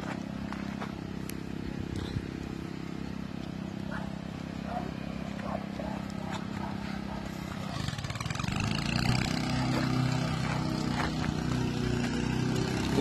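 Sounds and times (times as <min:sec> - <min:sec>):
outdoor traffic noise: 0:00.0 - 0:13.0
vehicle engine running: 0:00.0 - 0:13.0.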